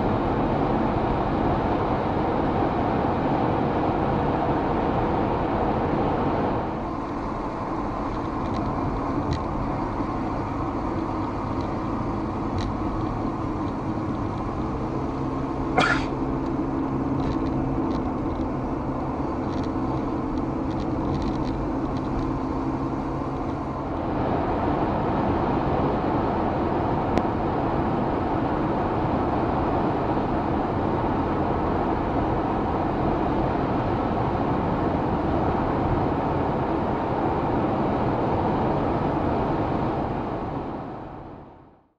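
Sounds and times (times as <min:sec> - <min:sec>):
low engine hum: 0:00.0 - 0:41.9
road and tyre noise: 0:00.0 - 0:41.9.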